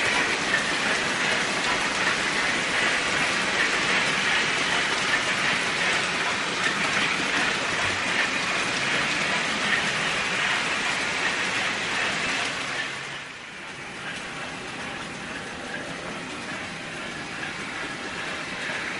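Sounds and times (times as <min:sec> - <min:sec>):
model train wheels rolling on track: 0:00.0 - 0:18.9.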